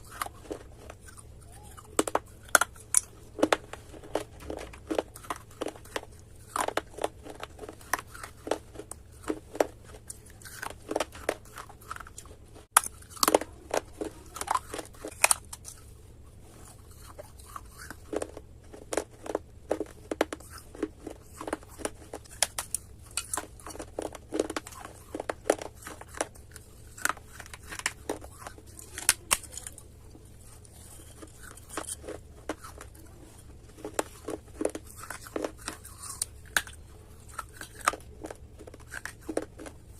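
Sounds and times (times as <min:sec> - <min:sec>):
crunching and chewing dry clay: 0:00.0 - 0:39.9.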